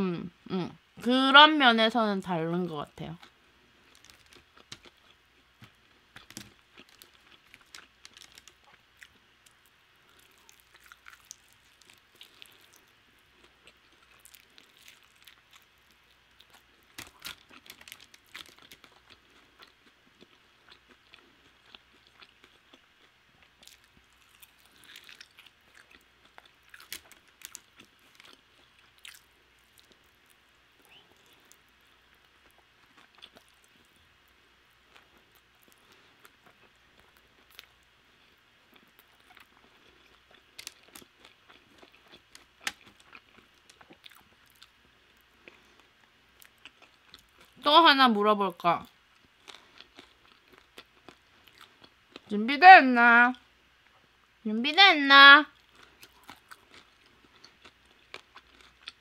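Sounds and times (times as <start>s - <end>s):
crunchy chewing: 3.2s - 47.6s, 49.1s - 52.3s, 55.5s - 59.0s.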